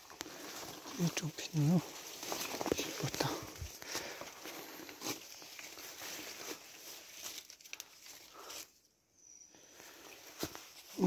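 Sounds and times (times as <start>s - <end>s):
leaves and brush rustling: 0.0s - 9.0s, 9.6s - 11.0s.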